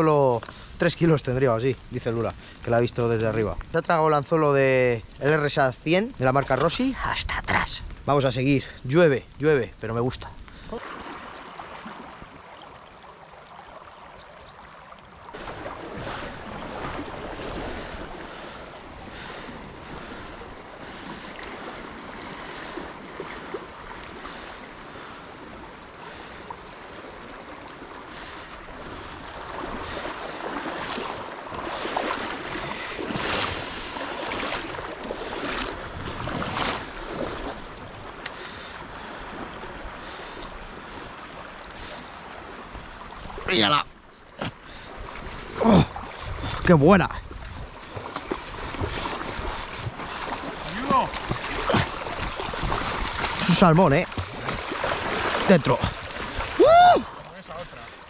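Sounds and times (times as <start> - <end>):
river water rushing and splashing: 9.8 - 58.0.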